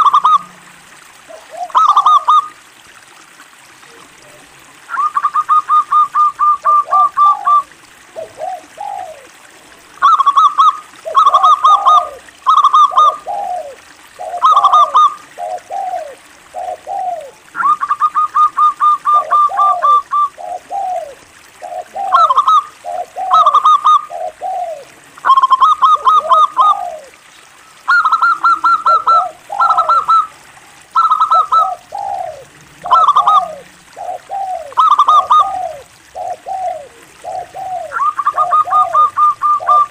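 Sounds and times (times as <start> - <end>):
dove cooing: 0.0 - 0.6, 1.3 - 2.5, 3.8 - 27.2, 27.8 - 39.9.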